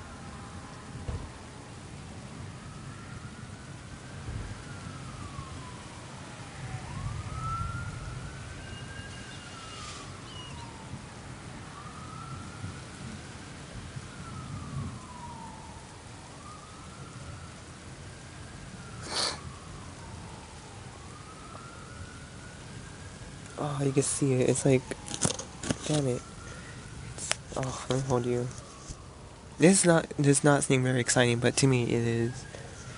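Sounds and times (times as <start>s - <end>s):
faint siren wailing: 0.0s - 32.9s
steady rain: 0.0s - 32.9s.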